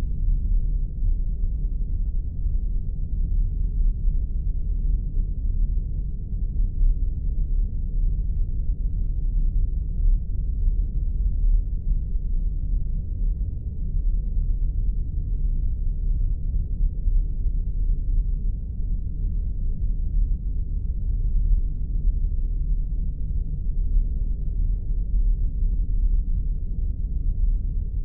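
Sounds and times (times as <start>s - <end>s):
low rumble: 0.0s - 28.0s.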